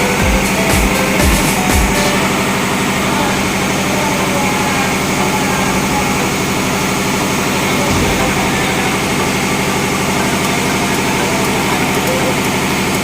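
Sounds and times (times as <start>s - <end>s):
marine diesel engine running: 0.0s - 13.0s.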